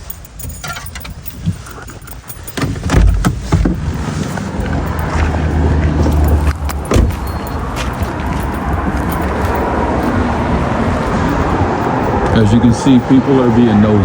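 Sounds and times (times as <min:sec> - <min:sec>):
car engine humming: 0:00.0 - 0:14.0
outdoor road noise: 0:00.0 - 0:14.0.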